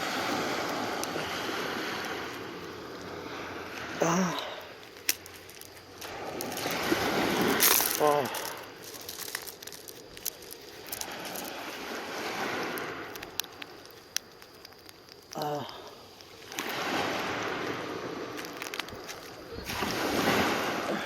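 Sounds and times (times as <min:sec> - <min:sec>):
sea water sloshing: 0:00.0 - 0:21.0.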